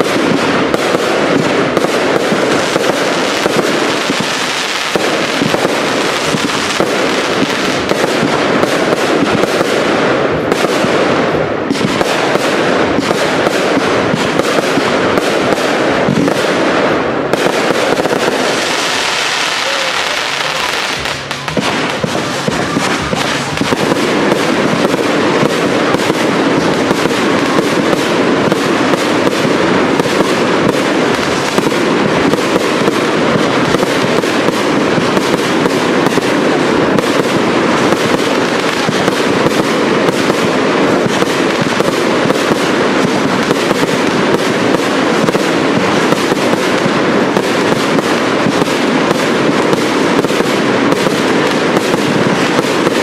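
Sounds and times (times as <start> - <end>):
fireworks shots and aerial bursts: 0.0 - 53.0.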